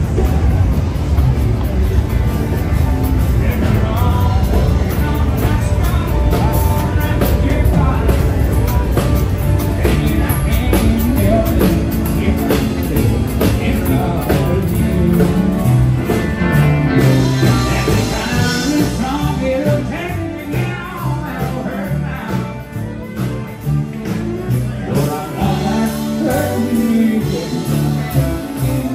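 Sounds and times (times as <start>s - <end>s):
bass line: 0.0s - 28.9s
live rock band playing: 0.0s - 28.9s
person singing: 3.1s - 28.9s.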